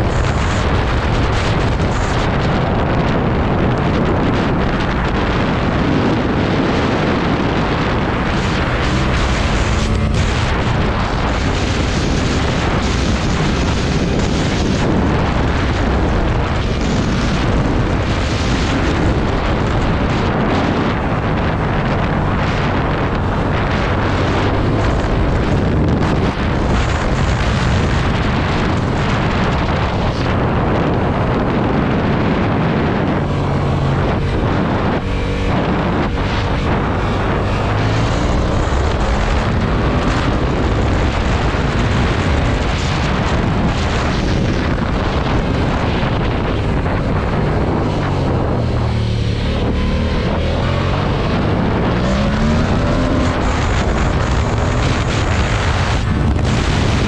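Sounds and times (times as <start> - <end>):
motorcycle engine: 0.0 - 57.0
wind rushing over microphone: 0.0 - 57.0.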